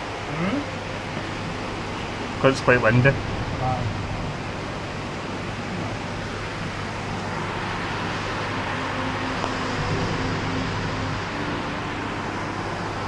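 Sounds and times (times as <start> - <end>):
wind blowing: 1.3 - 13.0.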